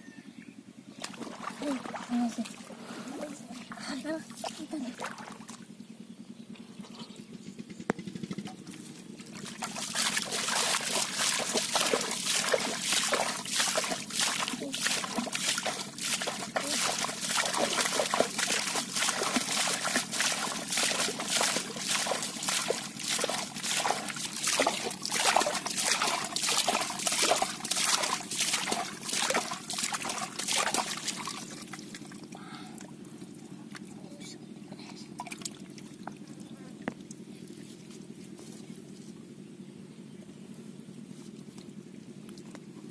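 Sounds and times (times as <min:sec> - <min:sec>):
muddy water splashing: 0:00.9 - 0:05.7, 0:07.9 - 0:38.8.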